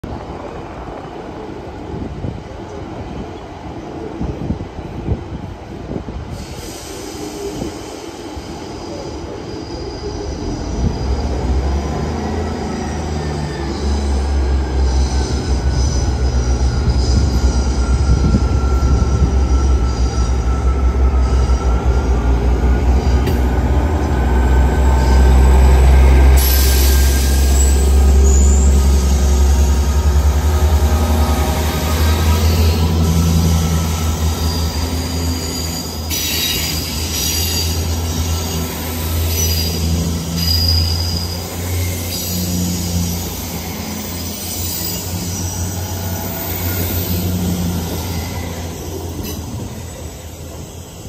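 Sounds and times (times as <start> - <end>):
diesel train engine drone: 0.1 - 51.0
high wheel squeal: 6.4 - 51.0.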